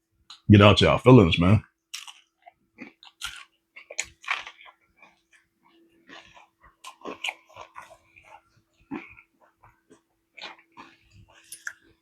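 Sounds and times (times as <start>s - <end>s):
person chewing crunchy food: 1.9s - 12.0s.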